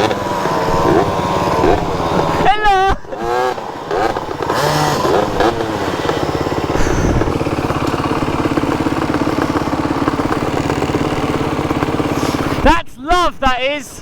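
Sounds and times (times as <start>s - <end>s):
motorcycle engine idling: 0.0s - 12.8s.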